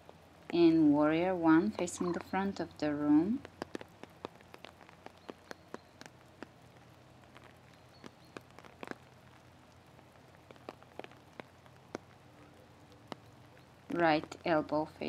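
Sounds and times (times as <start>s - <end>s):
low steady hum: 0.0s - 15.0s
raindrops ticking: 0.0s - 15.0s.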